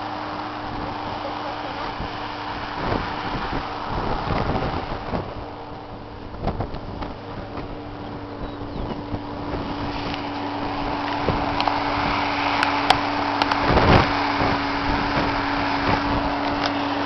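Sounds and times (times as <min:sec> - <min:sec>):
tractor diesel engine running: 0:00.0 - 0:17.0
wind buffeting microphone: 0:00.0 - 0:17.0.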